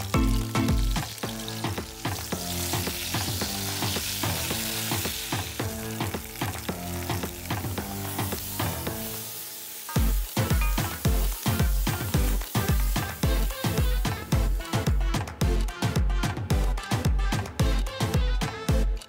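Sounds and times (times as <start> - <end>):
background music with beat: 0.0 - 9.3, 9.9 - 19.0
peppers sizzling in oil: 0.0 - 15.9.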